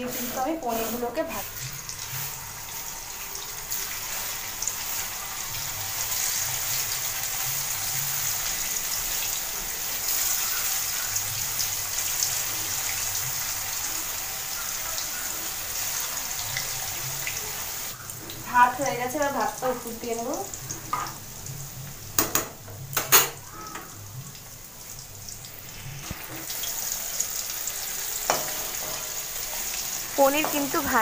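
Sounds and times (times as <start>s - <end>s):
food frying in hot oil: 0.0s - 31.0s.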